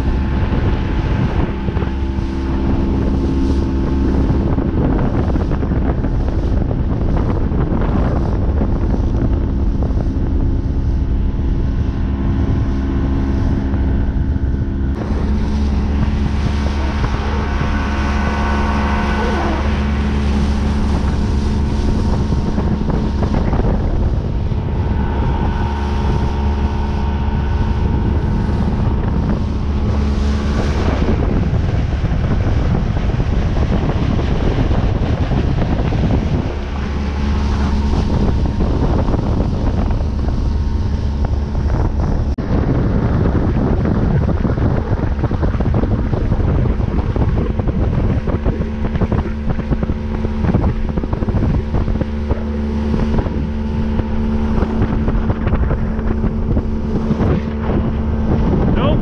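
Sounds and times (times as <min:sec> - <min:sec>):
outboard motor running: 0:00.0 - 0:59.0
water rushing along hull: 0:00.0 - 0:59.0
wind buffeting microphone: 0:00.0 - 0:59.0.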